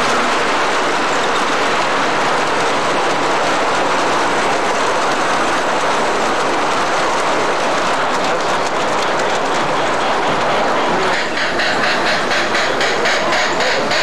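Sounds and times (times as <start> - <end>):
model train wheels on rails: 0.0 - 14.0.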